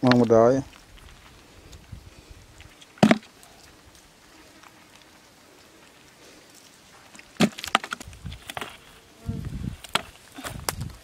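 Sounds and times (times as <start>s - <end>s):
outdoor background: 0.0s - 11.0s.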